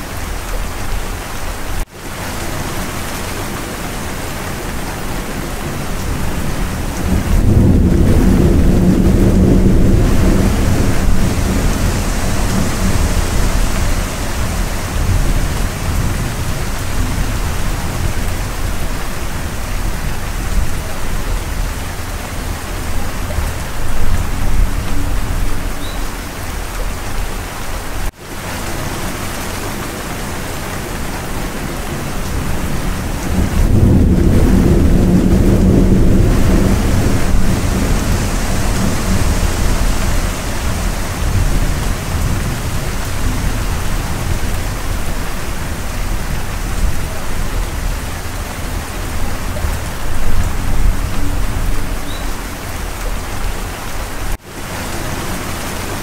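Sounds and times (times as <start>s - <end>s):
heavy rain hiss: 0.0s - 56.0s
low rumble of thunder: 4.7s - 27.3s, 30.1s - 54.4s.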